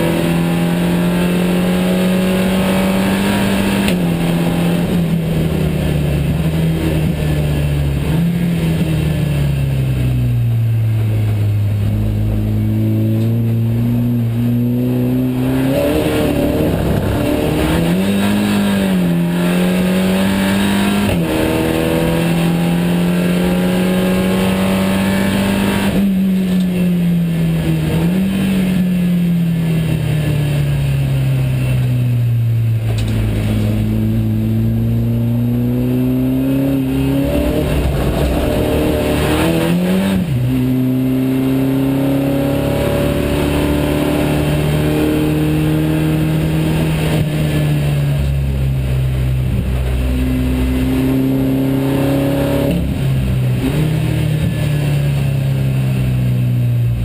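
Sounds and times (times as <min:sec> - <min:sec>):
race car engine revving: 0:00.0 - 0:55.2.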